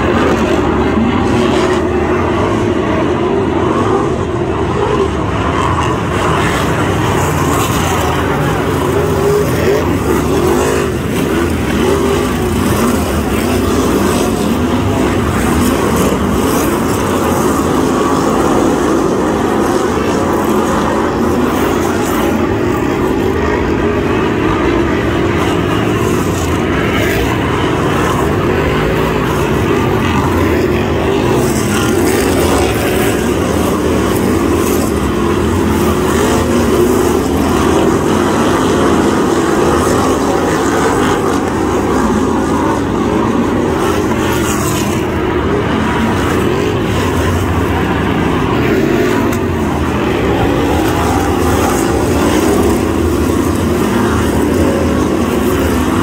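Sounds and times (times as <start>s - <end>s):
racing car engines: 0.0s - 56.0s.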